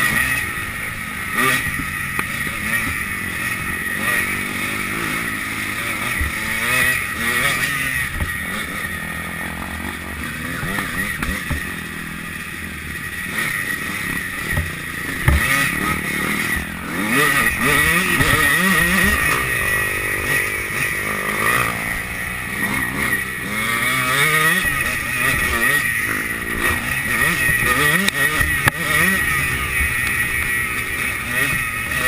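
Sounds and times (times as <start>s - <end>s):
motocross bike engine revving: 0.0s - 32.0s.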